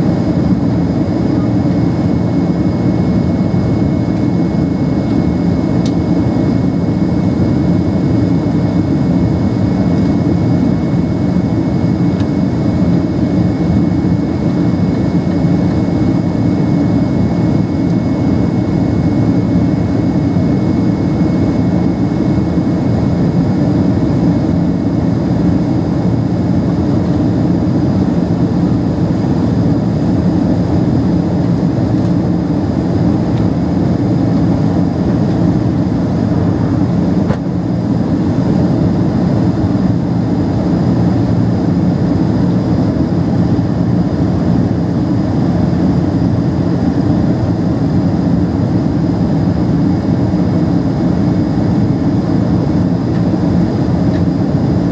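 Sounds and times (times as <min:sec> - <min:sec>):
jet engine roar in cabin: 0:00.0 - 0:54.9.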